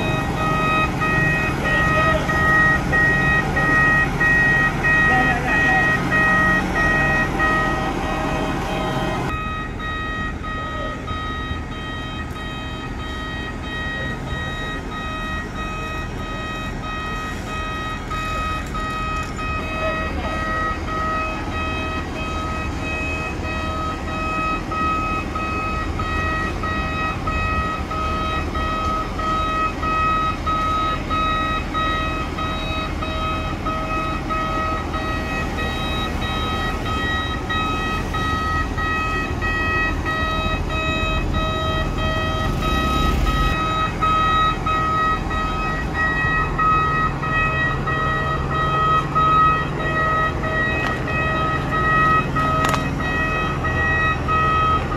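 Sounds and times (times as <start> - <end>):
engine rumble: 0.0 - 54.9
machinery warning beeper: 0.0 - 54.9.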